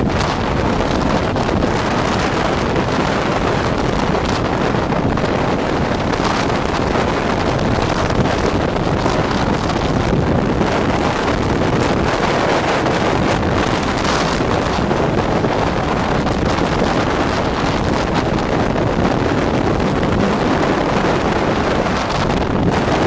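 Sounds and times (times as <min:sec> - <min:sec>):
storm waves breaking on sea wall: 0:00.0 - 0:23.0
wind buffeting microphone: 0:00.0 - 0:23.0.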